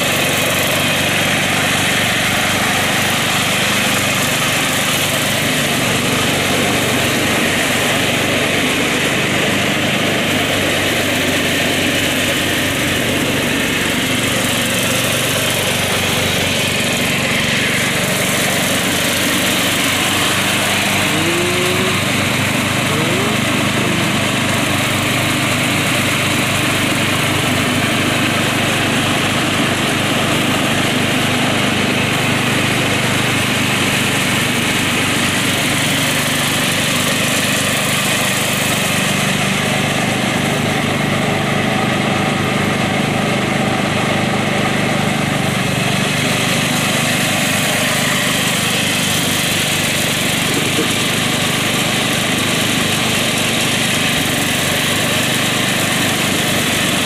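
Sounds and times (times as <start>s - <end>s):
riding lawn mower mowing grass: 0.0s - 57.0s.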